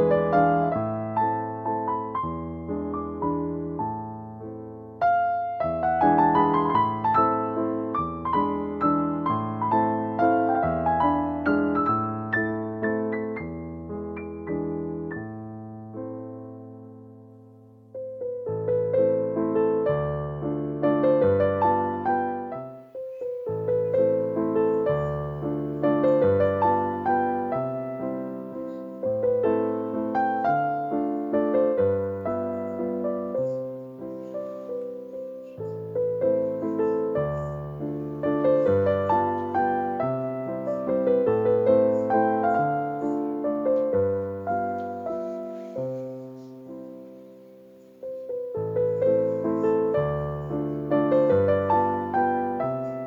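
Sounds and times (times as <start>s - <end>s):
slow piano music: 0.0s - 53.0s.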